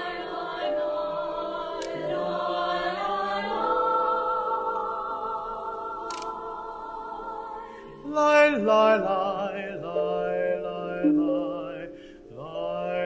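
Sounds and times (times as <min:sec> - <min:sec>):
group singing in parts: 0:00.0 - 0:13.0.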